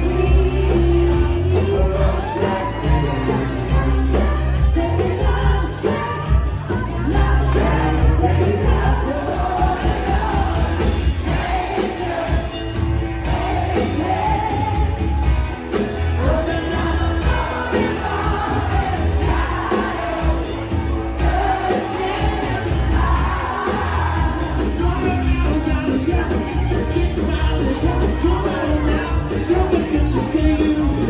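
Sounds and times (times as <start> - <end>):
lead vocalist singing: 0.0 - 31.0
live band playing dance song: 0.0 - 31.0.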